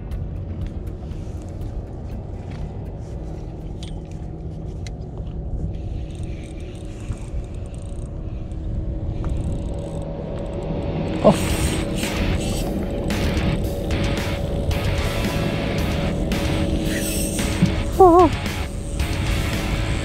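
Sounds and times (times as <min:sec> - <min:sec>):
low rumble aboard boat: 0:00.0 - 0:20.0.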